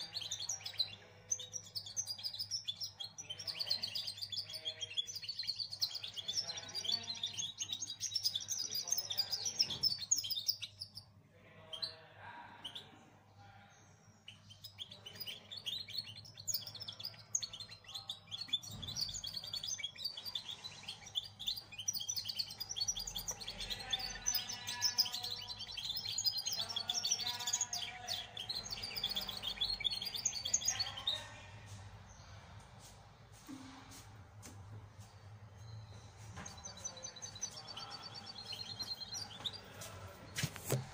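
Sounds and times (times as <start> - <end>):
bird twittering and trilling: 0.0 - 32.9, 35.0 - 40.9.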